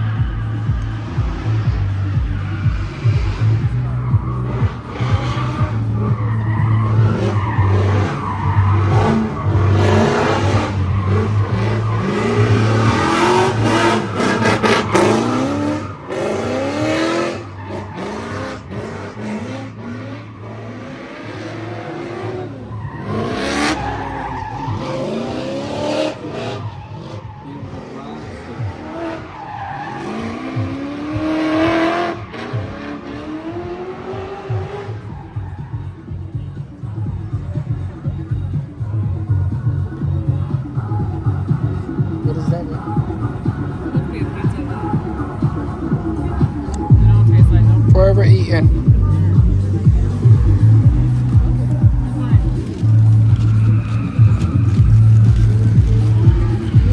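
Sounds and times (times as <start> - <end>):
tires squealing and skidding: 0.0 - 38.4, 40.5 - 56.9
car engines revving: 0.0 - 56.9.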